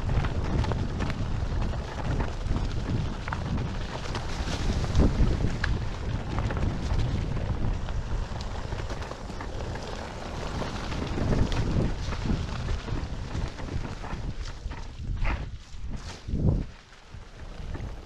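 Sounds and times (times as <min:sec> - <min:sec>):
clicks of grit and stones: 0:00.0 - 0:18.0
wheels rumbling on dirt trail: 0:00.0 - 0:18.0
wind buffeting microphone: 0:00.0 - 0:18.0.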